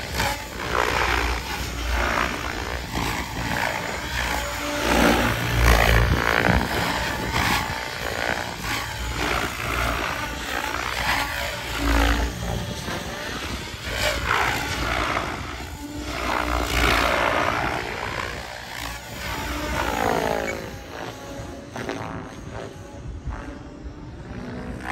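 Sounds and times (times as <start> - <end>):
model helicopter rotors whirring: 0.0 - 24.9.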